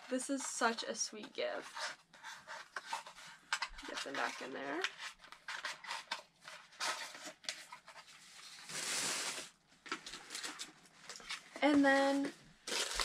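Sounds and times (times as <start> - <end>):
gifts rustling and scraping: 0.0 - 13.0.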